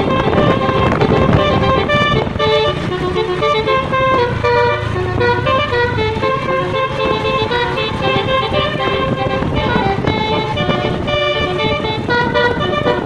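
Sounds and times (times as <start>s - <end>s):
multi-tone vehicle horn tune: 0.0s - 13.0s.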